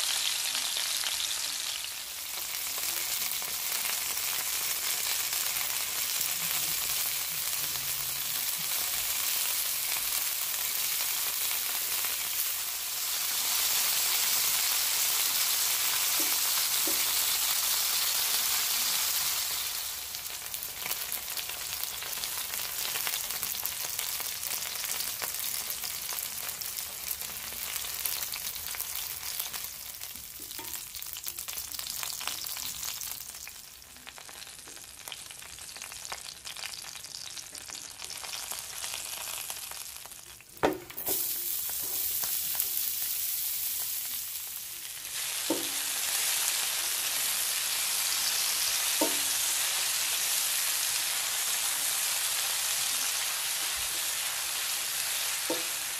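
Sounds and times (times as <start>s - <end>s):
chicken sizzling in hot oil: 0.0s - 55.9s
onions sizzling in oil: 0.0s - 55.9s.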